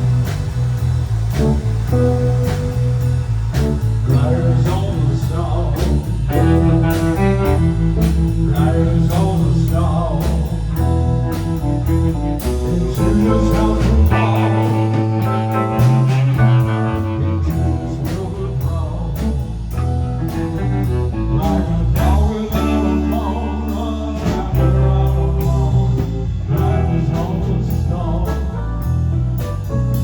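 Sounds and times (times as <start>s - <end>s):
blues-rock song with singing: 0.0s - 30.0s.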